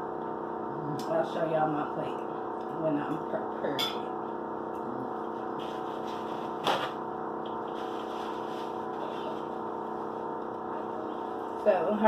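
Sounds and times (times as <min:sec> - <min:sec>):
appliance humming: 0:00.0 - 0:12.0.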